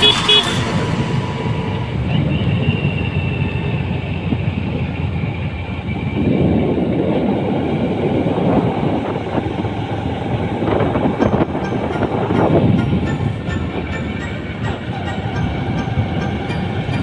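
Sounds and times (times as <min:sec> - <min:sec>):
motorcycle engine running: 0:00.0 - 0:17.0
road rumble: 0:00.0 - 0:17.0
wind rushing: 0:00.0 - 0:17.0.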